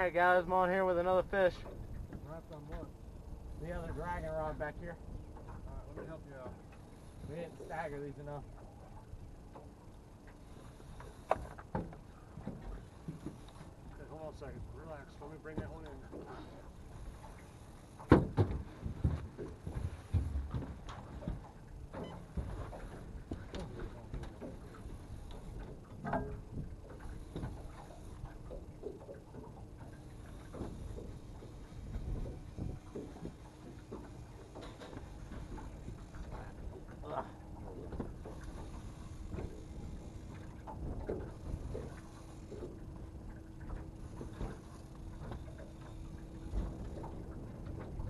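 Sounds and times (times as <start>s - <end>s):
faint steady hum: 0.0s - 48.0s
wind and water rumble: 0.0s - 48.0s.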